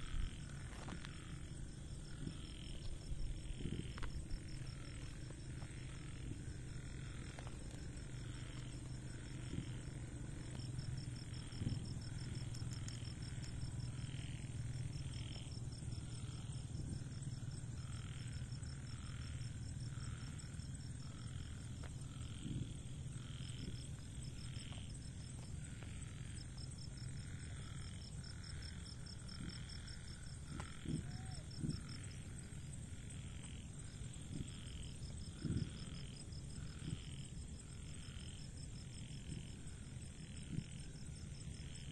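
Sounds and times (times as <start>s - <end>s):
crickets trilling: 0.0s - 41.9s
frogs calling: 0.0s - 41.9s
steady low hum: 0.0s - 41.9s.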